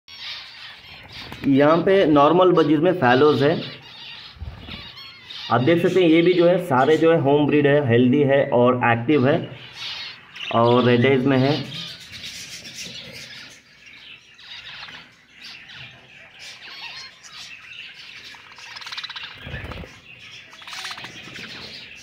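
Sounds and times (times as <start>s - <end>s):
rapid rasping bird trill: 0.1s - 7.0s, 9.6s - 22.0s
budgerigars chirping and warbling: 0.1s - 22.0s.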